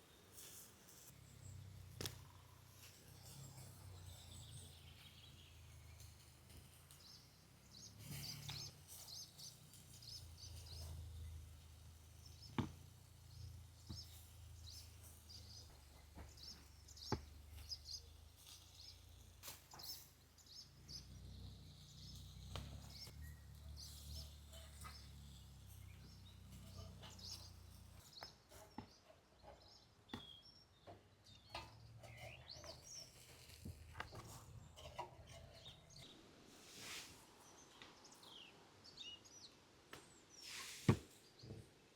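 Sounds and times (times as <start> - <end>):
faint birds chirping: 0.0 - 41.9.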